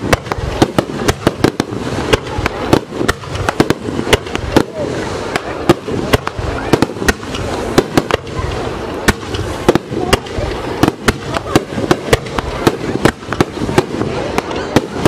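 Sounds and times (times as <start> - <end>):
fireworks bursting with bangs: 0.0 - 15.0
fireworks rumble: 0.0 - 15.0.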